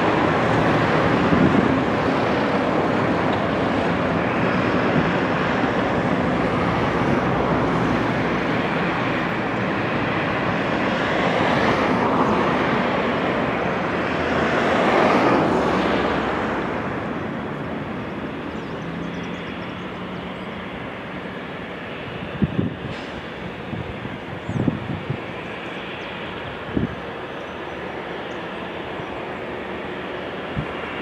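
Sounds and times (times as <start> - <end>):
jet engine rushing noise: 0.0 - 31.0.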